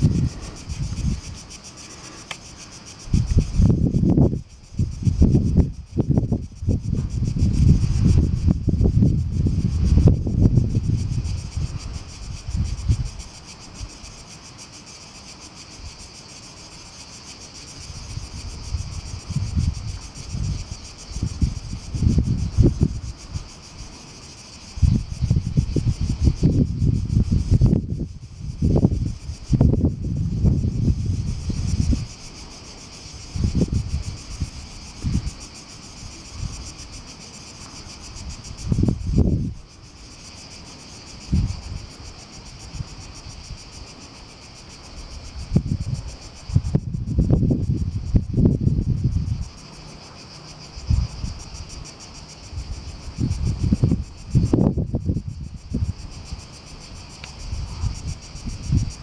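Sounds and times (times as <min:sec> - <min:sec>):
insects chirping: 0:00.0 - 0:59.0
wind rumble on microphone: 0:00.0 - 0:59.0.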